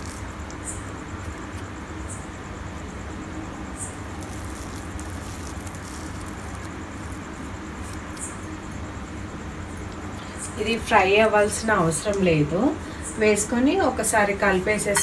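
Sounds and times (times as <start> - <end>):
gas stove rumble and hiss: 0.0 - 15.0.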